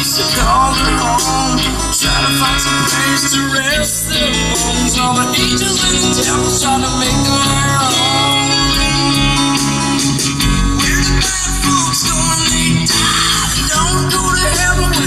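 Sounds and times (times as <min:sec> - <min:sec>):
guitar music with heavy bass: 0:00.0 - 0:15.0.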